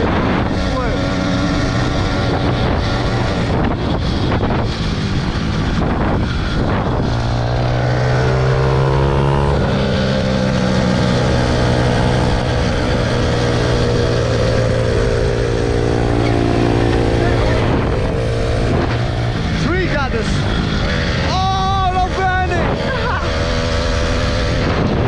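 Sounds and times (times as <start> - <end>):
small motorbike engine: 0.0 - 25.0
wind noise on microphone: 0.0 - 25.0.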